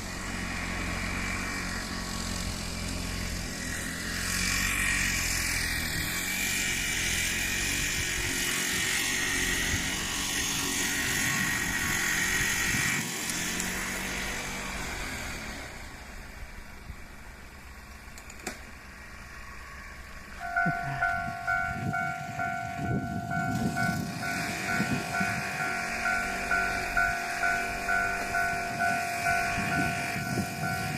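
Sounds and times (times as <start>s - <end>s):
small engine running: 0.0s - 16.2s, 19.2s - 30.9s.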